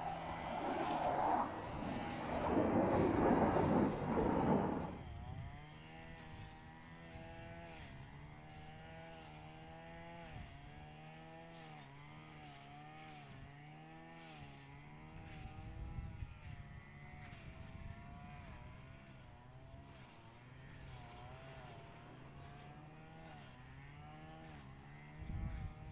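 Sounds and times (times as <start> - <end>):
faint engine drone: 0.0 - 25.9.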